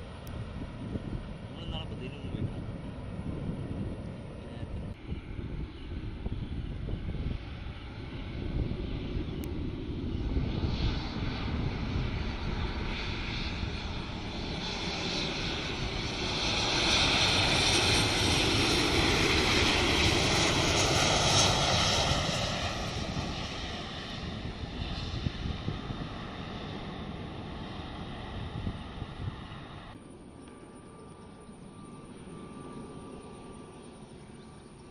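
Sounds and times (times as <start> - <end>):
airliner passing overhead: 0.0 - 34.9.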